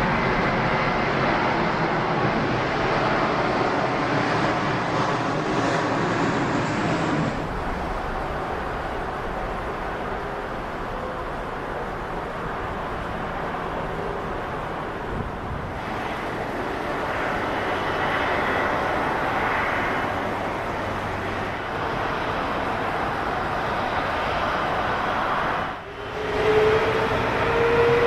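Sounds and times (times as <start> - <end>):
jet engine rush: 0.0 - 28.0.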